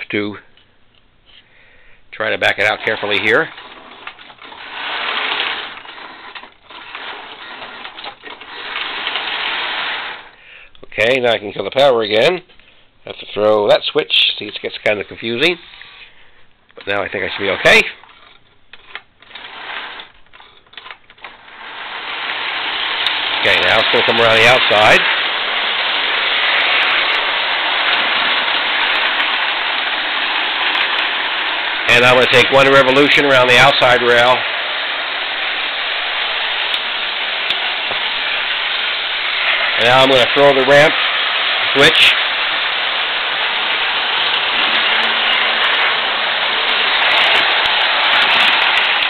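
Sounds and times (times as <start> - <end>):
model train motor whirring: 2.5 - 10.4, 16.9 - 49.0.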